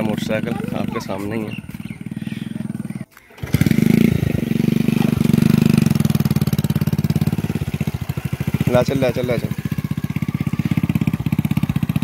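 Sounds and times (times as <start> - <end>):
motorcycle engine labouring: 0.0 - 12.0.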